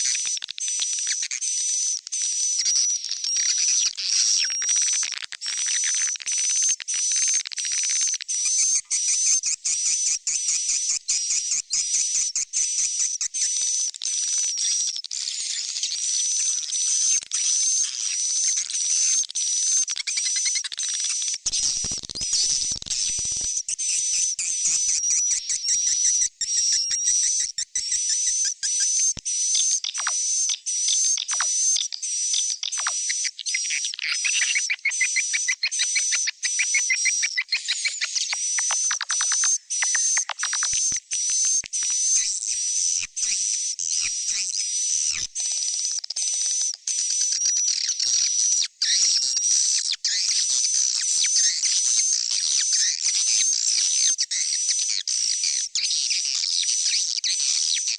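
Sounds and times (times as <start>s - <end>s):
high-pitched twittering chirps: 0.0s - 57.9s.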